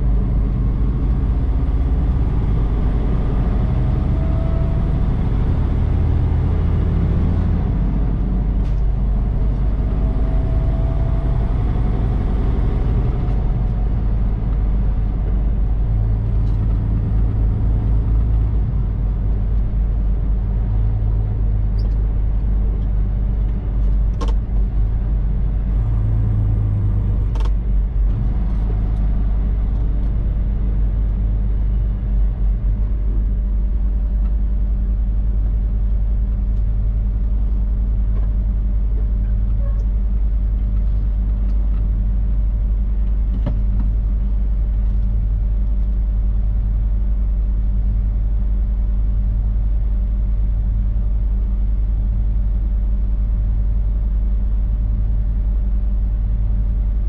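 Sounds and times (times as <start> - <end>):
diesel engine and road drone: 0.0 - 57.0.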